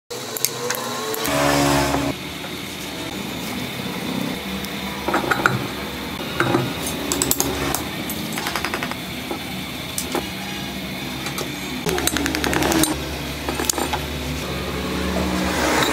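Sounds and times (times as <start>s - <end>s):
loud humming tone: 0.1s - 15.9s
steady background hum: 0.1s - 15.9s.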